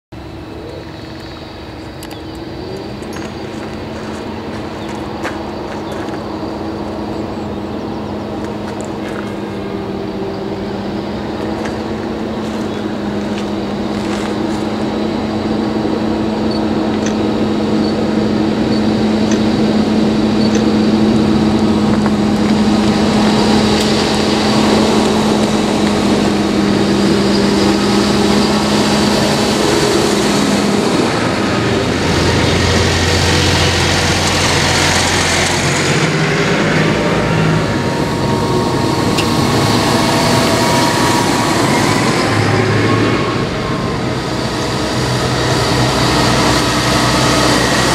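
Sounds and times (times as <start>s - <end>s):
tractor diesel engines: 0.1s - 47.9s
tyre noise on road: 0.2s - 47.9s.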